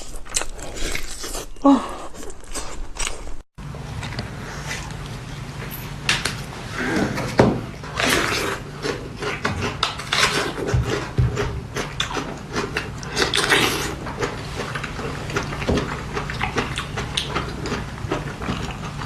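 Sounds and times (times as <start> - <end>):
chewing and smacking: 0.0 - 5.2, 7.8 - 19.0
steady low hum: 0.0 - 19.0.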